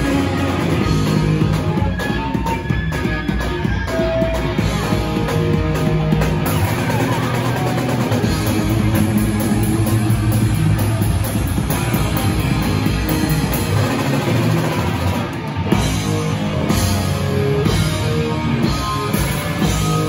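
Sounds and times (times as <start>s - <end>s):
drum kit: 0.0s - 20.0s
electric guitar: 0.0s - 20.0s.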